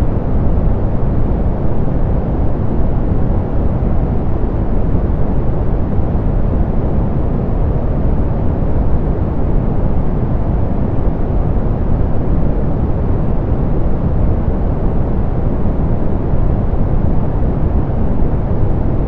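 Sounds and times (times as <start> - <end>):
soft pink noise: 0.0 - 19.0.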